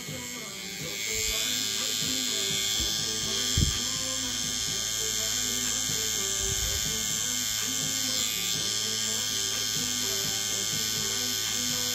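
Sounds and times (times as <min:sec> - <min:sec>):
tattoo machine buzzing: 0:00.0 - 0:11.9.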